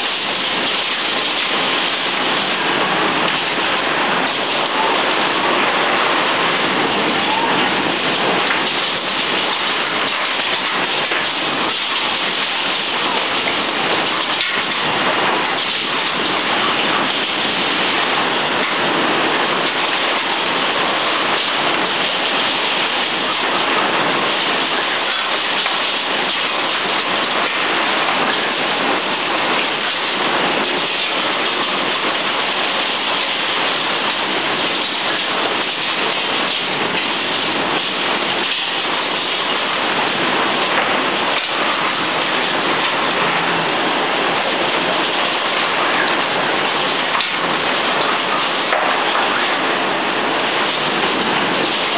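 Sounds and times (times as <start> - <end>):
heavy rain hissing: 0.0 - 51.9.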